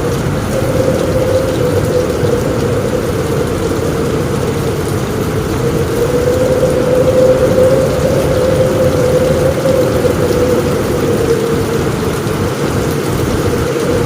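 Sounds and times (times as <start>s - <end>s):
faint wavering hum: 0.0s - 14.0s
heavy rain drumming on a roof: 0.0s - 14.0s.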